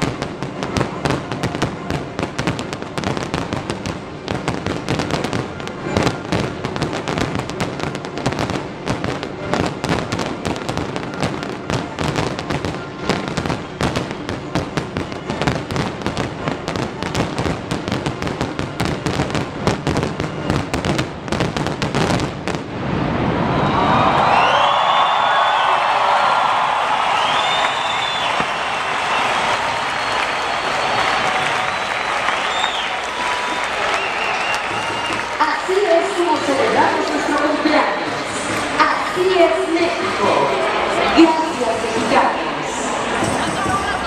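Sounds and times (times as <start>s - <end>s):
crowd cheering: 0.0s - 20.8s, 22.0s - 44.0s
fireworks crackling and banging: 0.0s - 44.0s.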